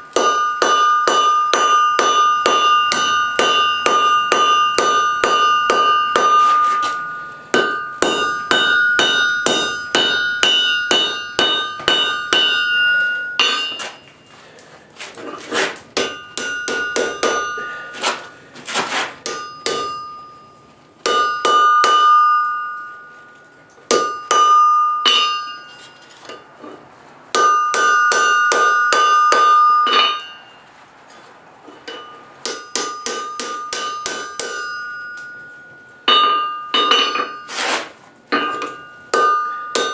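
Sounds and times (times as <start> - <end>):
hammer striking steel on anvil: 0.0 - 14.4, 15.2 - 30.6, 31.7 - 39.9
anvil ringing: 0.0 - 14.7, 15.9 - 18.5, 19.2 - 26.6, 27.3 - 30.7, 31.7 - 39.9.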